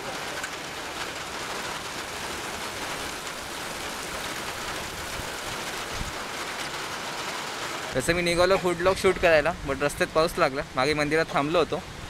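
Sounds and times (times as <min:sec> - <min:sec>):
rain falling on wet street: 0:00.0 - 0:12.0.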